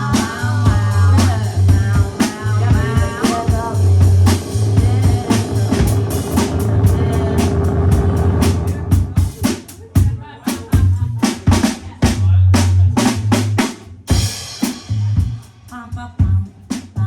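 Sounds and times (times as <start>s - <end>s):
band playing: 0.0s - 16.4s
deep bass line: 0.0s - 17.0s
drum kit playing a beat: 0.0s - 17.0s.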